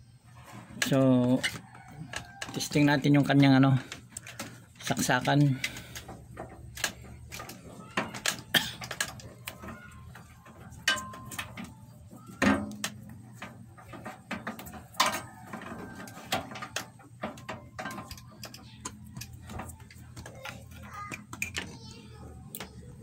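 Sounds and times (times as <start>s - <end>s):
tools clicking and knocking: 0.8s - 23.0s.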